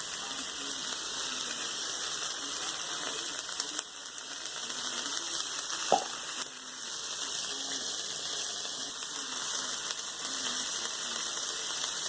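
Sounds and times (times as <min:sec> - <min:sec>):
food cooking hiss: 0:00.0 - 0:12.0.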